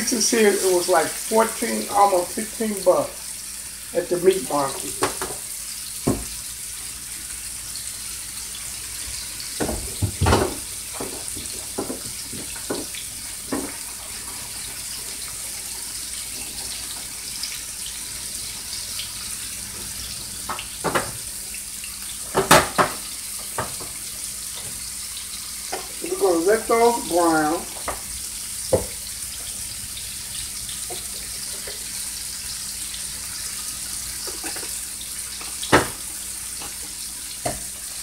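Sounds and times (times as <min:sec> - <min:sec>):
meat sizzling in a skillet: 0:00.0 - 0:38.0
oil popping and crackling: 0:04.0 - 0:38.0.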